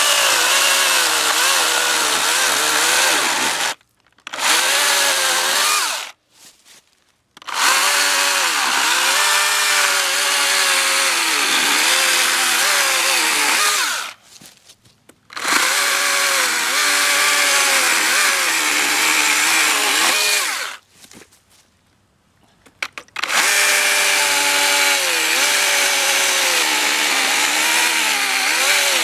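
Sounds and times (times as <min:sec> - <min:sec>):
chainsaw cutting wood: 0:00.0 - 0:06.2, 0:07.4 - 0:14.2, 0:15.3 - 0:20.8, 0:23.2 - 0:29.0.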